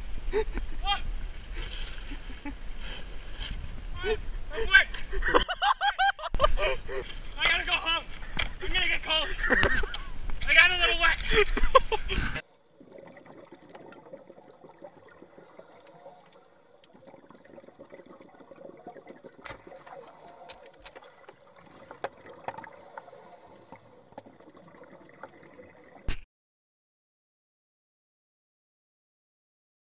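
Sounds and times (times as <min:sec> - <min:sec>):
trickling and lapping water: 0:00.0 - 0:05.4, 0:06.4 - 0:26.1.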